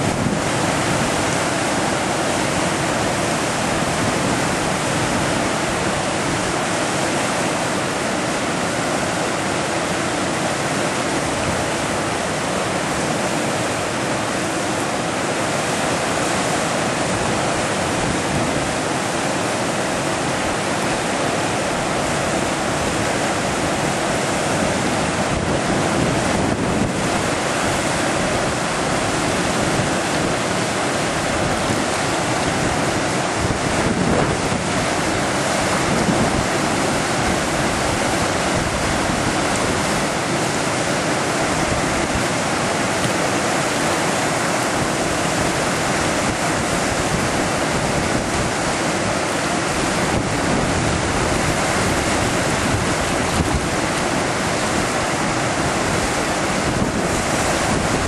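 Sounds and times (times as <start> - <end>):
whitewater rapids roaring: 0.0 - 58.0.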